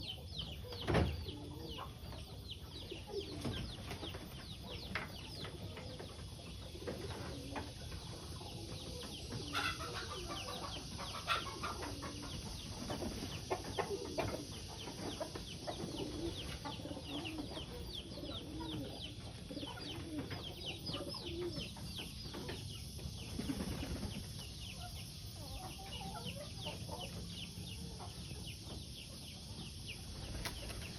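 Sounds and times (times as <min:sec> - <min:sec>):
pigeons cooing: 0:00.0 - 0:27.1
birds chirping: 0:00.0 - 0:30.9.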